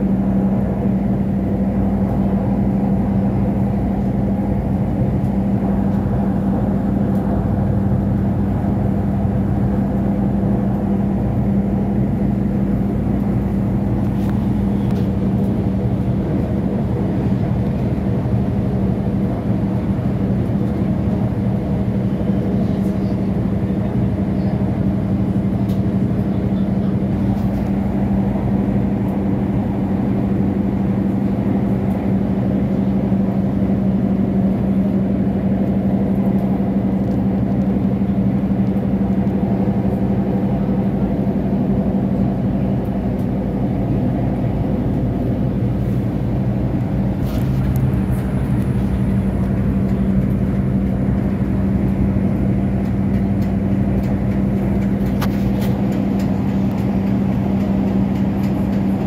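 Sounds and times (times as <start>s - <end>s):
diesel train engine drone: 0.0s - 59.0s
wheel and track rumble: 0.0s - 59.0s.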